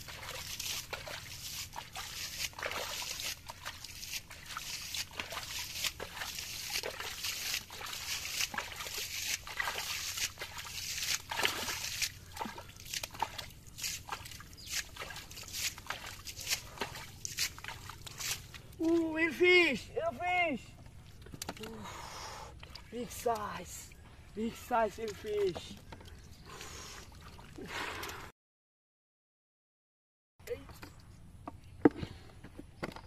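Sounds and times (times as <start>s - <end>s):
muddy water sloshing and splashing: 0.0s - 28.3s.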